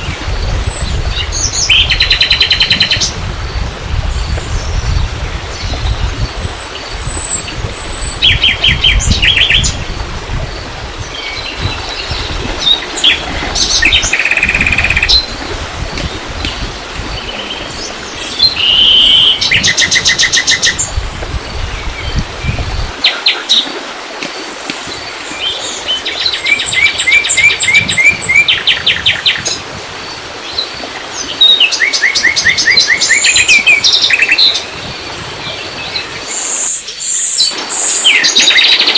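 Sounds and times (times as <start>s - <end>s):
songbirds trilling and chirping: 0.0s - 38.9s.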